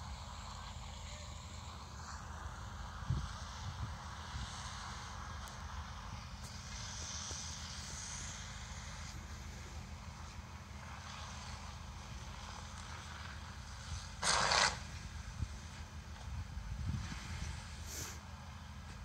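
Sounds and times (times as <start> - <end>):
distant fire engine rumble: 0.0 - 19.0
faint hiss: 0.0 - 19.0.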